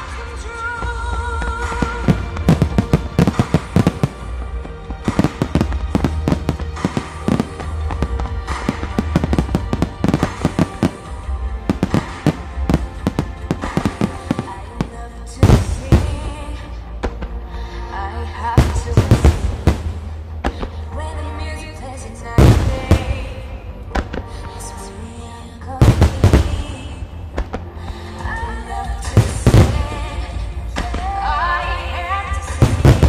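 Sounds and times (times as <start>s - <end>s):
music playing: 0.0s - 33.0s.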